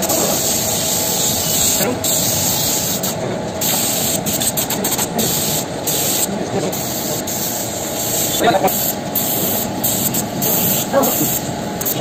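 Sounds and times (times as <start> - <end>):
spray gun hissing: 0.0 - 12.0.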